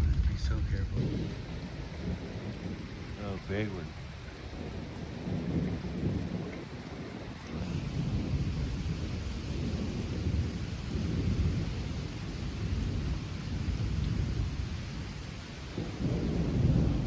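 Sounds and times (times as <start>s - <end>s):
light rain: 0.0s - 17.0s
rolling thunder rumble: 0.0s - 17.0s.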